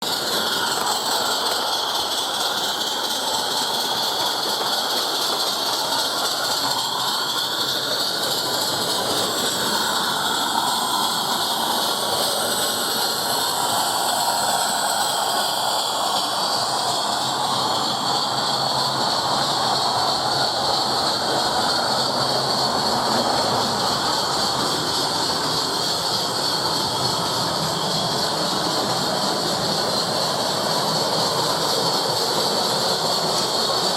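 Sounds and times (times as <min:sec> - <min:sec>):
steam locomotive hissing: 0:00.0 - 0:33.9.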